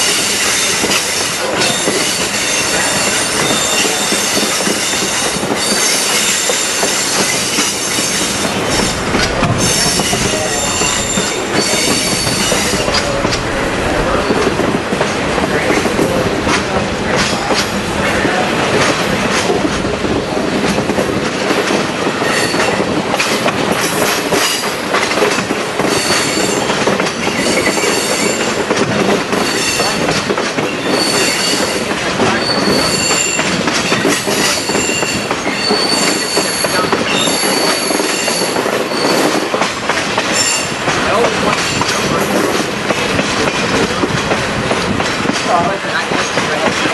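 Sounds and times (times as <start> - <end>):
train rolling on rails: 0.0 - 46.9.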